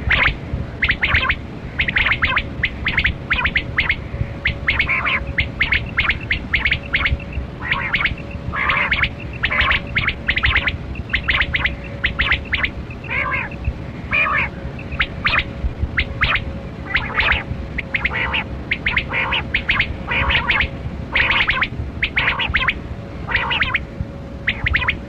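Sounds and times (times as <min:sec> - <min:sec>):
quail calling sharp short notes: 0:00.0 - 0:23.8, 0:24.4 - 0:25.0
faint steady hum: 0:00.0 - 0:25.0.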